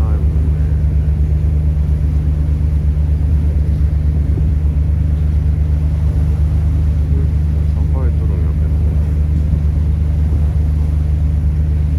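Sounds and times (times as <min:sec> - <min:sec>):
ferry engines droning: 0:00.0 - 0:11.9.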